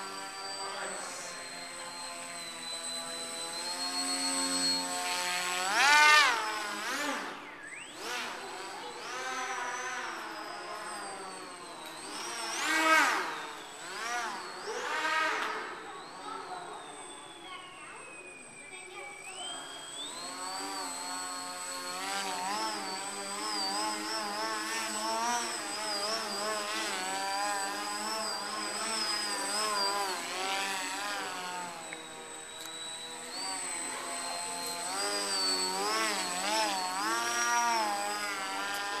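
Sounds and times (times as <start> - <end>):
model plane motor buzzing: 0.0 - 39.0.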